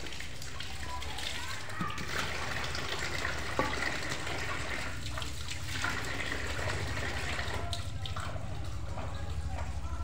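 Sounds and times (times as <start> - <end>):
small water splashes: 0.0 - 10.0
water pouring from a tap: 0.0 - 10.0.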